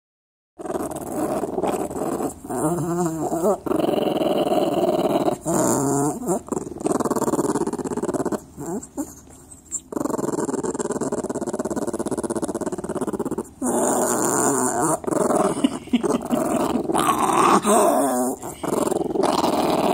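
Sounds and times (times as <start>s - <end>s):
small dog growling: 0.6s - 19.9s
dog whining: 1.0s - 19.9s.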